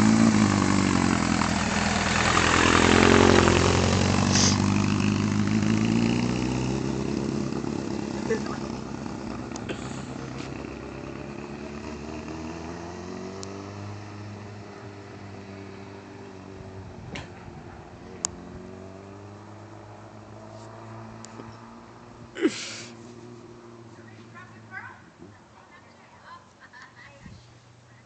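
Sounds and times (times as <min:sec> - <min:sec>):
motorcycle engine riding off: 0:00.0 - 0:25.4.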